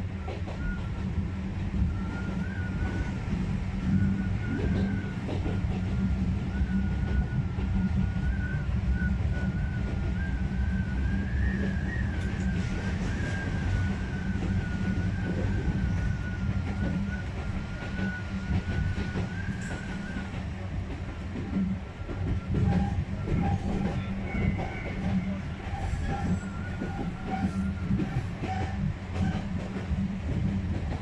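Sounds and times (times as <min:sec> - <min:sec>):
electric train running on track: 0:00.0 - 0:31.0.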